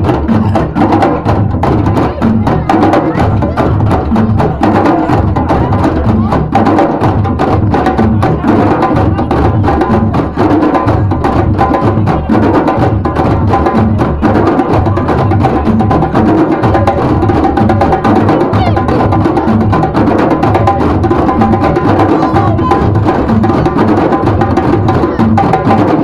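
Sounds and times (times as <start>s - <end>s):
djembe drums ensemble playing: 0.0s - 26.0s.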